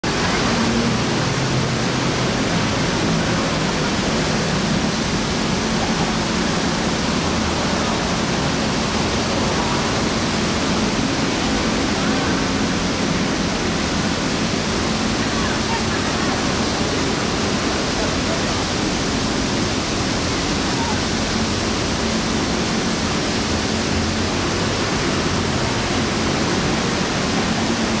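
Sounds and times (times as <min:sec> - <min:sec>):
street traffic rushing: 0:00.0 - 0:28.0.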